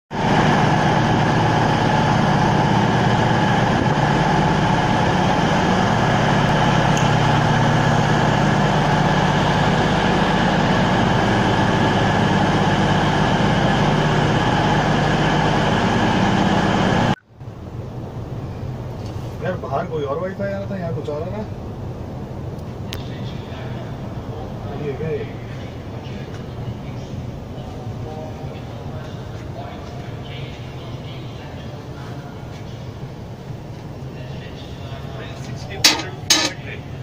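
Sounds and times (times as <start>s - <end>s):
train equipment humming: 0.1s - 19.4s, 20.3s - 37.0s.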